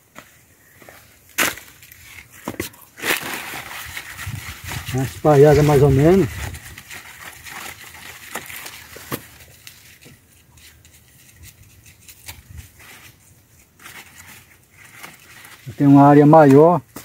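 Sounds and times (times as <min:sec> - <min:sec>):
stick scraping soil and leaves: 0:00.2 - 0:17.0.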